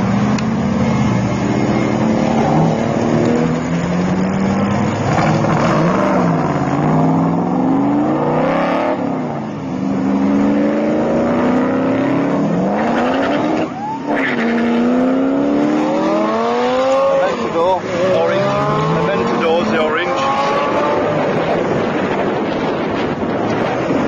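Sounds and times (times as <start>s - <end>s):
sports car engines accelerating: 0.0s - 24.0s.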